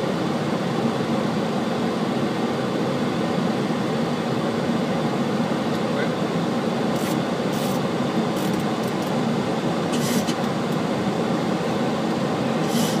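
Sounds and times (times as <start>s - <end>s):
airflow and engines rushing: 0.0s - 13.0s.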